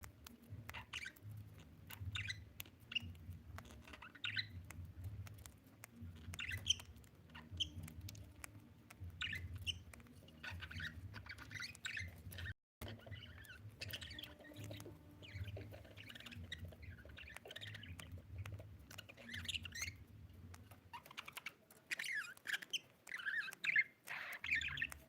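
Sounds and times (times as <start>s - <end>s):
sharp clicks: 0.0s - 25.0s
budgerigar chirping and chattering: 0.2s - 25.0s.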